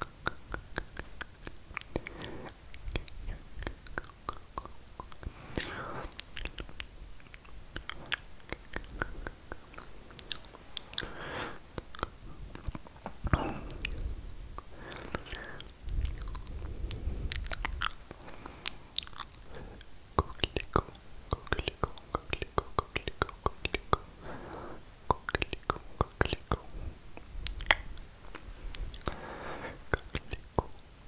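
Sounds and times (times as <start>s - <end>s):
wet mouth clicks and smacks: 0.0s - 30.9s
soft breathy sounds: 0.0s - 31.0s.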